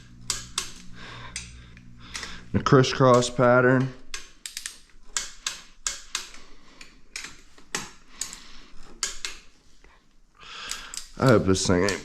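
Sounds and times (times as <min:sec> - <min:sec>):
torque wrench ratchet clicking: 0:00.0 - 0:09.4, 0:10.6 - 0:12.0.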